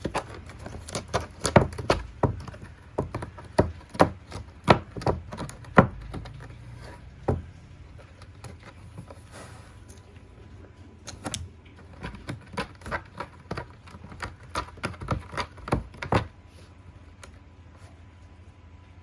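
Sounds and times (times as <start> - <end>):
cat scratching on scratcher: 0.0 - 10.0, 11.0 - 18.0.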